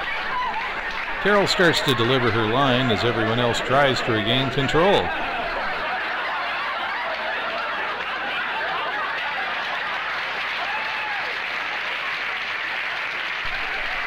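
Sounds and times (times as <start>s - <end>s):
audience laughing and applauding: 0.0s - 14.0s.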